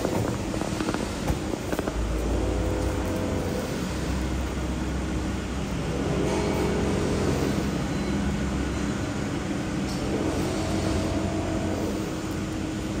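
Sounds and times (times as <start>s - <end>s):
deep machine rumble: 0.0s - 13.0s
packaging machinery humming: 0.0s - 13.0s.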